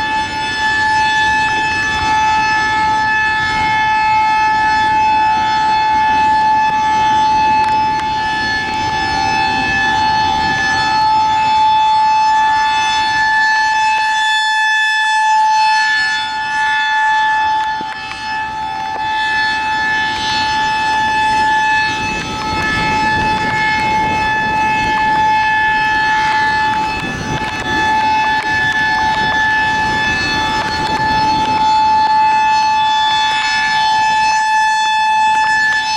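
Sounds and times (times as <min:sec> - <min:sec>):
warning siren steady tone: 0:00.0 - 0:35.9.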